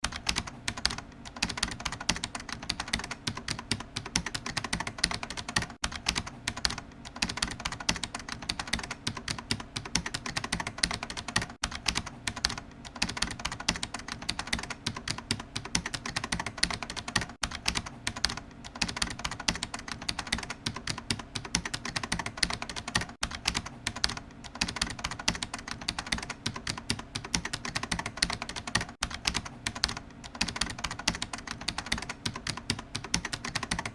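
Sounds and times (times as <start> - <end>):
fast typing on computer keyboard: 0.0 - 33.9.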